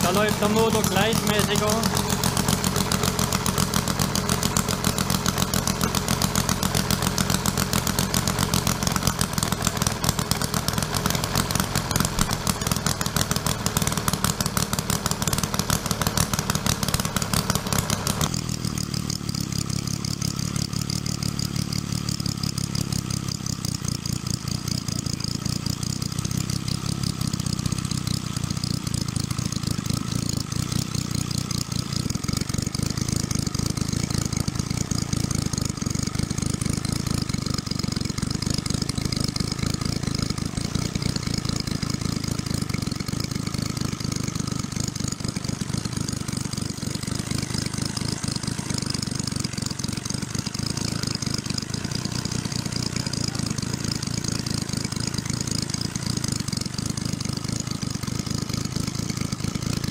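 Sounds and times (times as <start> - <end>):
model engine running: 0.0 - 59.9.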